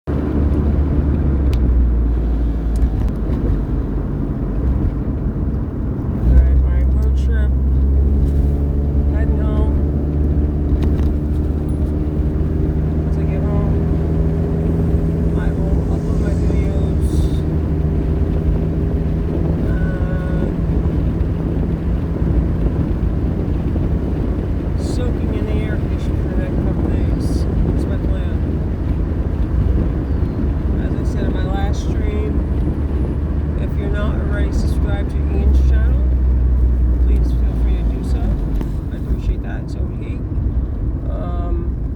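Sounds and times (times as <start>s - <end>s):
car road and engine rumble: 0.0s - 41.9s
wind noise: 0.1s - 41.9s.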